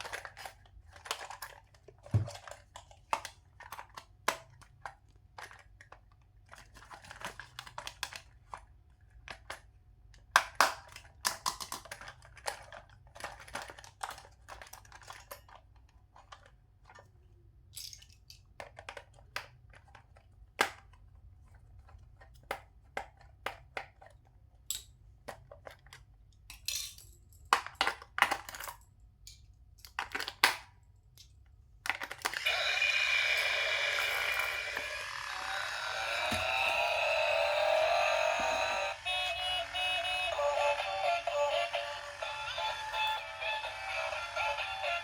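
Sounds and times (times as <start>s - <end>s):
plastic toys being handled: 0.0s - 45.0s.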